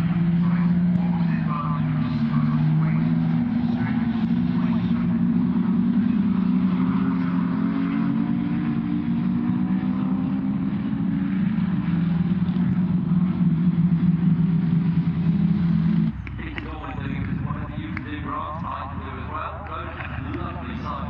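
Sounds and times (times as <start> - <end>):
racing car engines droning: 0.0 - 21.0.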